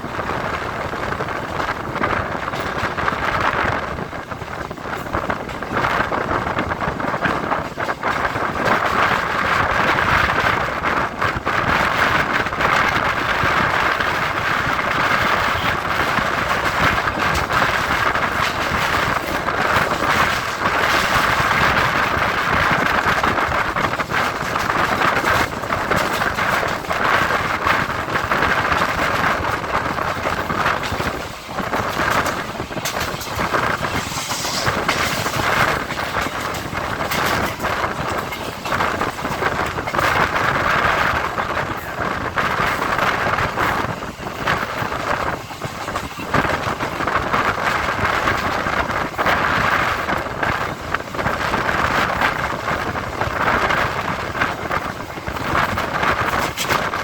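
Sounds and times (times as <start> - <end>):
train wheels and air rushing: 0.0 - 57.0.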